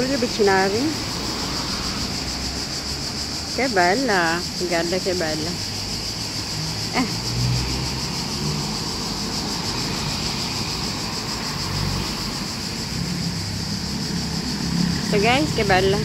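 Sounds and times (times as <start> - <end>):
cars passing: 0.0 - 16.0
constant high hiss: 0.0 - 16.0.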